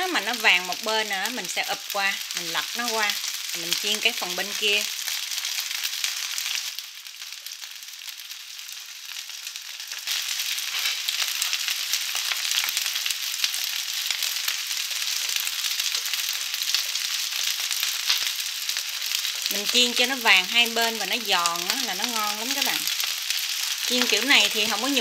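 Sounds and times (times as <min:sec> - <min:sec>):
rice cakes frying with crackling: 0:00.0 - 0:25.0.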